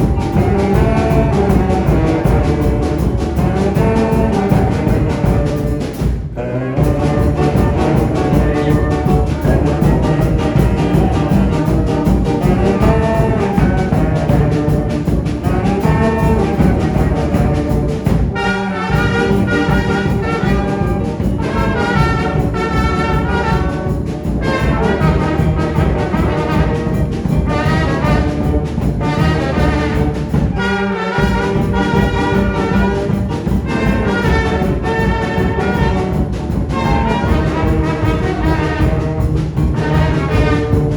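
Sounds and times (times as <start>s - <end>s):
brass band playing: 0.0s - 40.9s.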